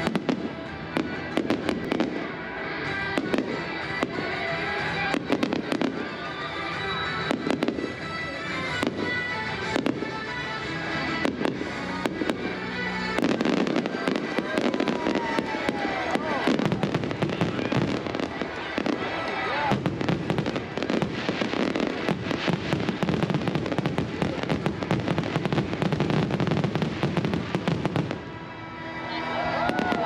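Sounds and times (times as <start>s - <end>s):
fireworks bangs and pops: 0.0s - 28.3s
music over loudspeakers: 0.0s - 30.0s.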